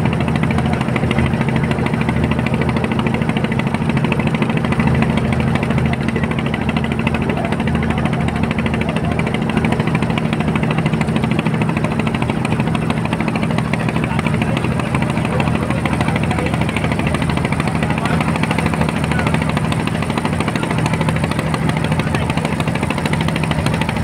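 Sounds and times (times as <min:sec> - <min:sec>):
boat diesel engine running: 0:00.0 - 0:24.0.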